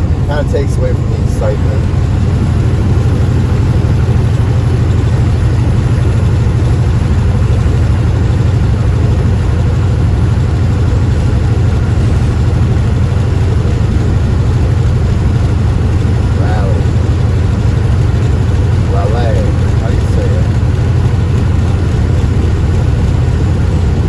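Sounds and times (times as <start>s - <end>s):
diesel truck engine drone: 0.0s - 24.0s
road noise: 0.0s - 24.0s.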